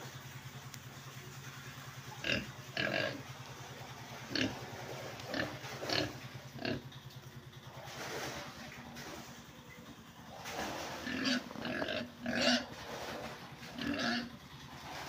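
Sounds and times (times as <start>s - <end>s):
low mechanical hum: 0.0s - 15.0s
pigs calling: 2.0s - 15.0s.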